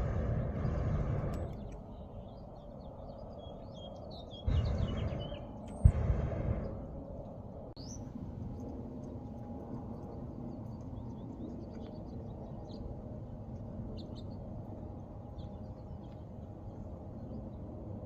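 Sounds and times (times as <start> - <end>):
low background rumble: 0.0 - 3.6, 4.4 - 18.0.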